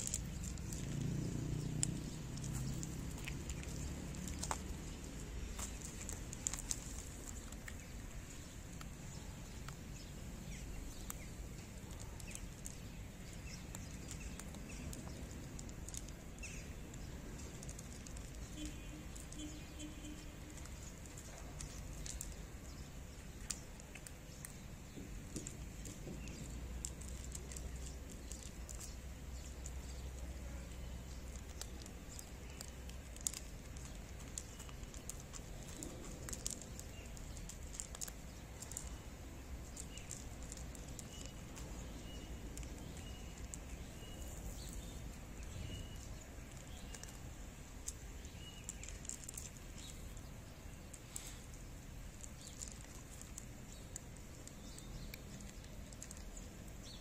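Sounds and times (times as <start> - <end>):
faint clicks and taps: 0.0 - 47.2.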